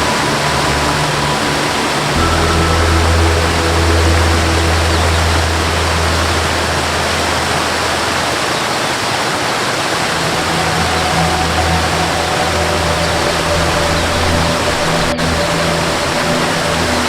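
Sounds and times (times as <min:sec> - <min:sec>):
soft melodic tone: 0:00.0 - 0:08.5, 0:10.3 - 0:17.0
low music drone: 0:00.0 - 0:08.8, 0:10.0 - 0:17.0
waterfall rushing: 0:00.0 - 0:17.0.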